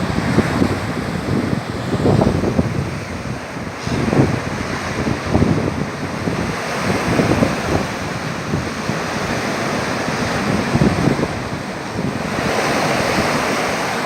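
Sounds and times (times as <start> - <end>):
sea surf washing on shore: 0.0 - 14.0
wind buffeting microphone: 0.0 - 14.0.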